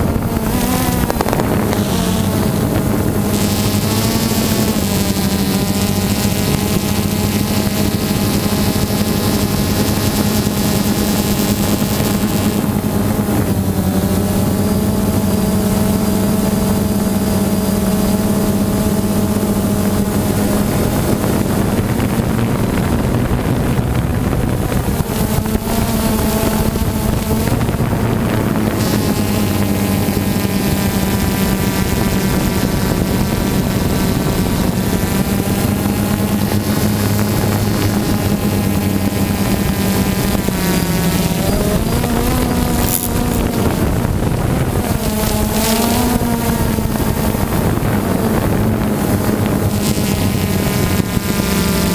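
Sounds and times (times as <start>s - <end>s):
drone motors humming: 0.0s - 51.9s.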